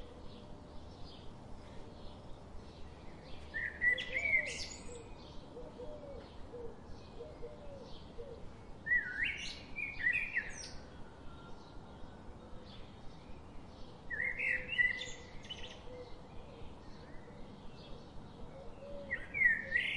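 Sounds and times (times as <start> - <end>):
background hiss: 0.0 - 19.9.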